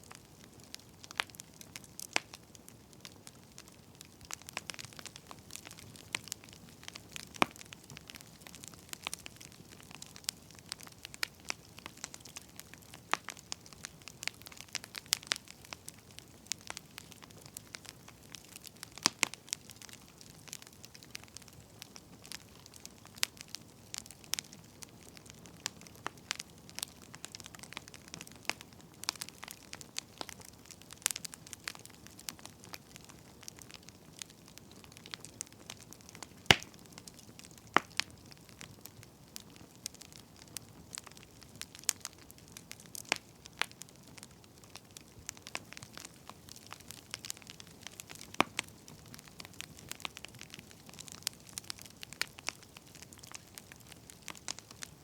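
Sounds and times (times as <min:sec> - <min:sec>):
burning firewood crackling: 0:00.0 - 0:55.0.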